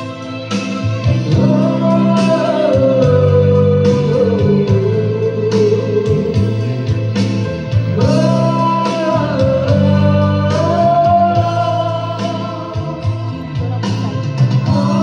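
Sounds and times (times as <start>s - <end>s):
song with singing guitar and beat: 0.0s - 15.0s.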